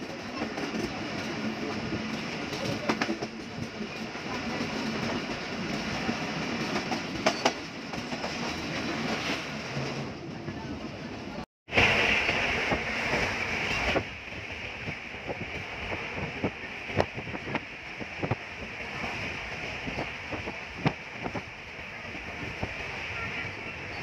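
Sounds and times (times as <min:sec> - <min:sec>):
train clicks and knocks: 0:00.0 - 0:10.4, 0:11.7 - 0:24.0
train running rumble: 0:00.0 - 0:24.0.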